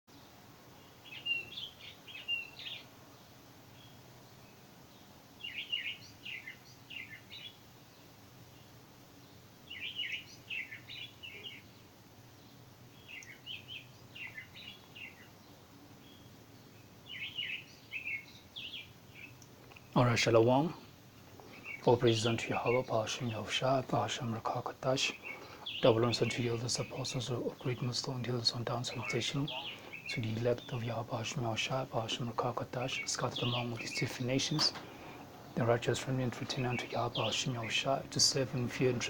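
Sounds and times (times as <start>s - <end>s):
songbird chirping: 0.1s - 39.0s
faint low hum: 0.2s - 39.0s.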